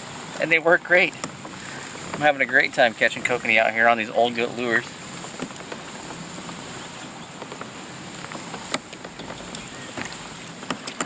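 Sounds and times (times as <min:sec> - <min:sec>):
boat engine and water hiss: 0:00.0 - 0:11.0.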